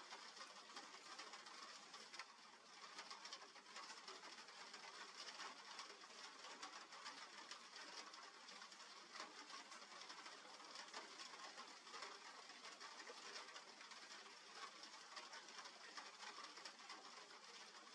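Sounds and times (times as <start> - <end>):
light rain pattering: 0.0 - 17.9.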